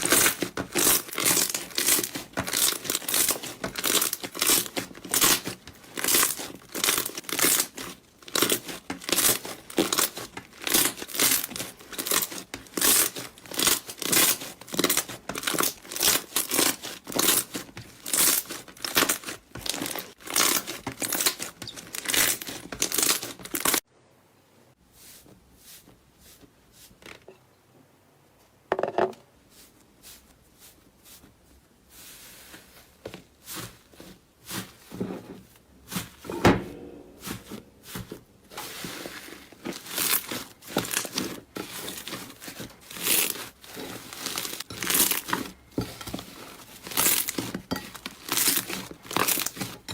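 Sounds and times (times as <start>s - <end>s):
slime squishing: 0.0s - 23.8s, 32.0s - 49.9s.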